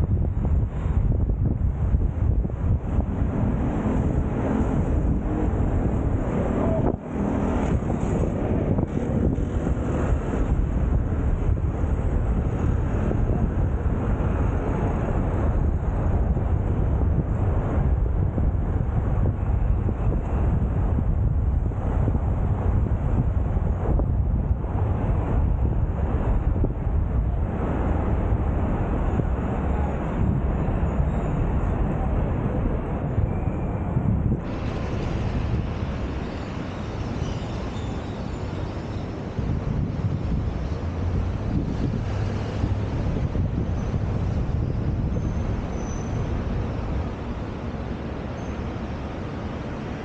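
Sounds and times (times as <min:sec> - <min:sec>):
road and traffic noise: 0:00.0 - 0:50.0
wind rumble on microphone: 0:00.0 - 0:50.0.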